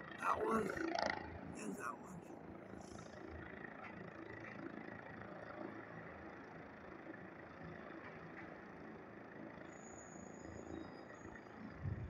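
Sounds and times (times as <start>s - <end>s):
distant helicopter hum: 0.0s - 12.0s.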